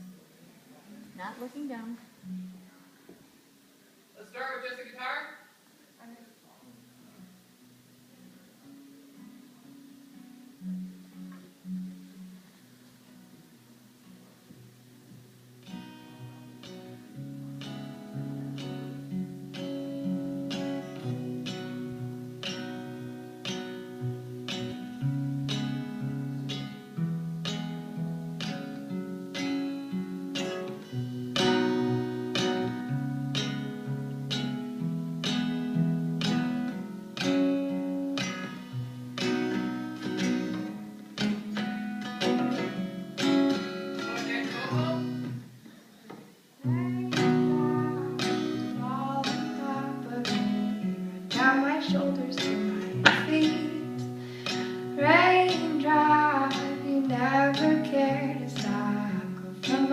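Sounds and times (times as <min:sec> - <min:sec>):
guitar strumming and plucking: 0:01.2 - 0:03.7, 0:07.2 - 0:45.8, 0:46.5 - 0:59.9.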